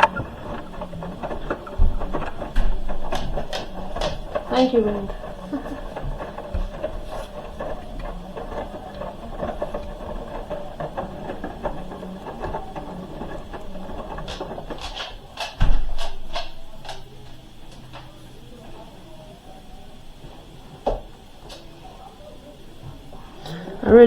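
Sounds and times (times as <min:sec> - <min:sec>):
washing machine drum churning: 0:00.0 - 0:24.0.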